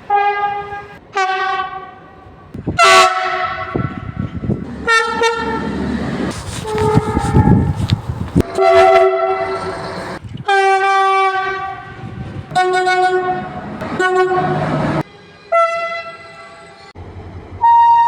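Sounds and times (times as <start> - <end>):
train horn blasts: 0.0 - 2.0, 2.7 - 4.2, 4.8 - 16.9
moving train rumble and clatter: 0.0 - 18.0.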